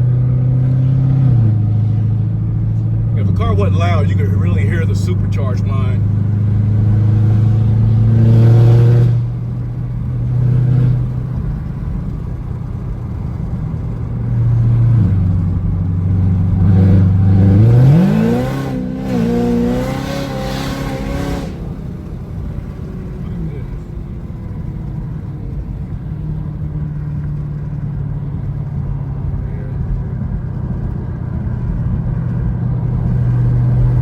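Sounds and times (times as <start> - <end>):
car engine and exhaust: 0.0 - 34.0.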